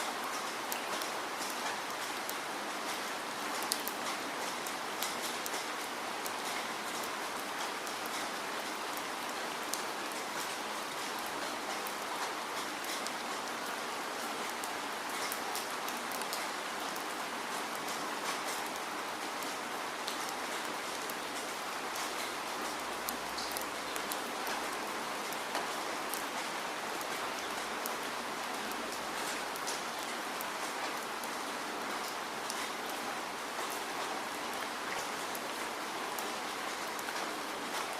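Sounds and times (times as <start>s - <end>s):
rain falling: 0.0s - 37.9s
raindrops ticking on a surface: 0.0s - 37.9s.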